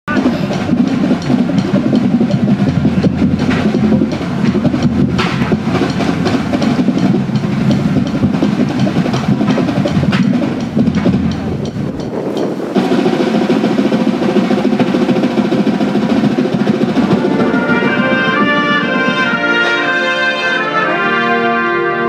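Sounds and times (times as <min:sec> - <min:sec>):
drum corps playing: 0:00.1 - 0:22.0.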